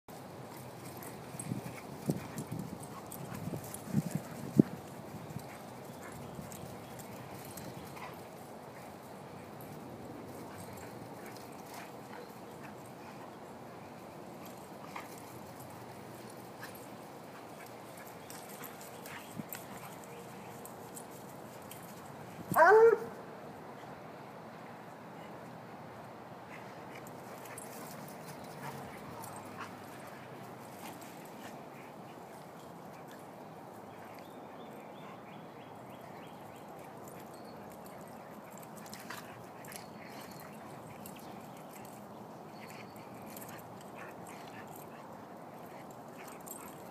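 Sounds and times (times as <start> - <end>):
dogs scuffling on grass: 0.1 - 24.0, 26.3 - 46.9.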